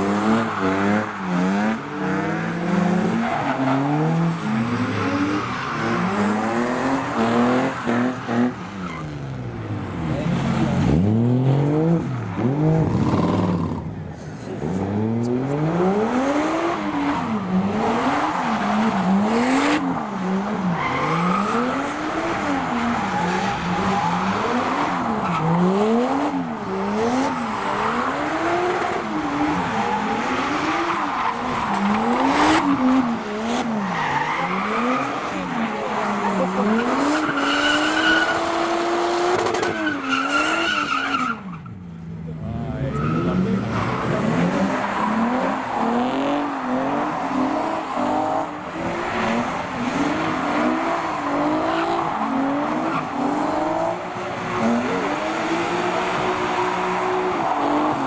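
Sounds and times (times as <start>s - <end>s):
tyres squealing and skidding: 0.0s - 13.9s, 14.7s - 41.8s, 42.7s - 58.0s
car engine revving: 0.0s - 41.5s, 42.3s - 58.0s.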